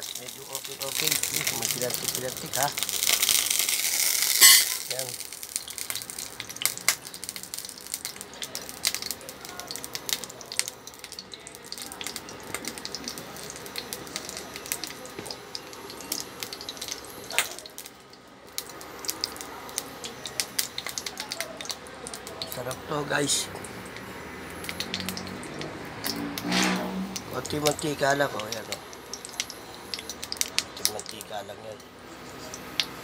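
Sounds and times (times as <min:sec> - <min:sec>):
hot oil crackling and popping: 0:00.0 - 0:33.0.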